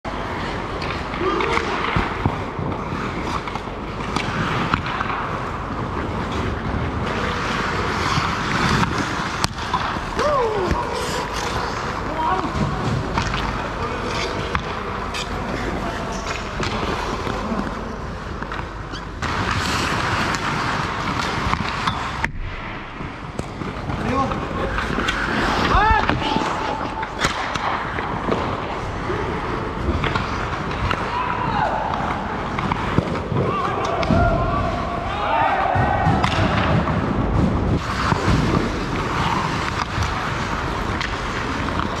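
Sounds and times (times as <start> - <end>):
skate blades scraping ice: 0.1 - 33.9, 36.2 - 42.0
hockey sticks and puck knocking: 0.2 - 29.0, 29.8 - 34.8, 35.7 - 42.0.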